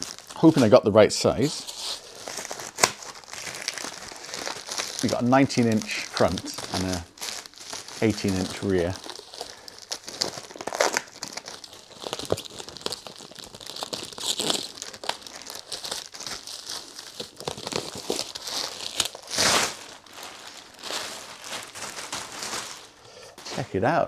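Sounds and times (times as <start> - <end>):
wrap ripping: 0.0 - 23.7
packaging wrap crackling: 0.0 - 23.9.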